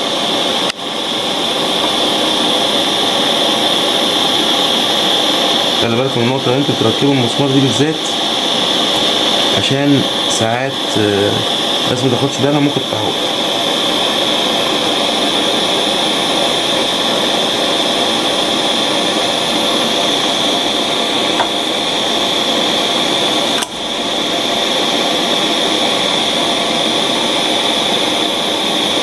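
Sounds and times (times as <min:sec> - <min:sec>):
machine whir with high hiss: 0:00.0 - 0:29.0.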